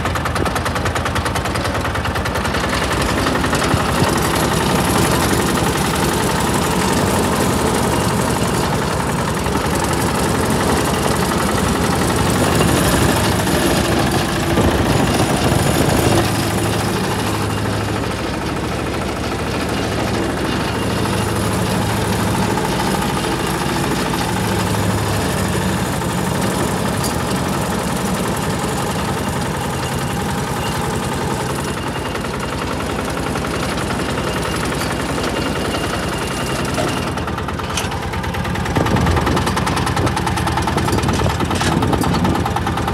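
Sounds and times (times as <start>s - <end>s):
dumper engine running: 0.0s - 42.9s.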